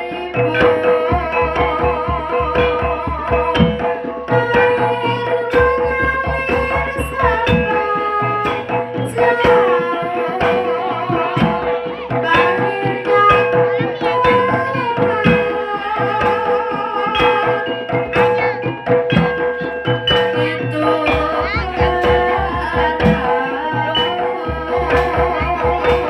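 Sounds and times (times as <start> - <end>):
hand drums playing rapid strokes: 0.0 - 26.0
held tone: 0.0 - 26.0
wavering melodic line: 0.0 - 26.0.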